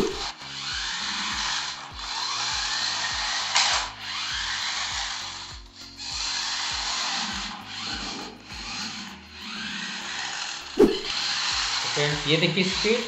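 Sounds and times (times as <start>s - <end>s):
background music with beat: 0.0s - 10.0s, 10.6s - 13.0s
toy truck motors whirring: 0.0s - 13.0s.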